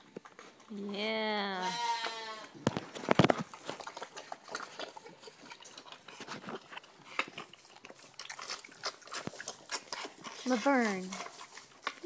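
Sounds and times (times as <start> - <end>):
pigs chewing and smacking: 0.0 - 12.0.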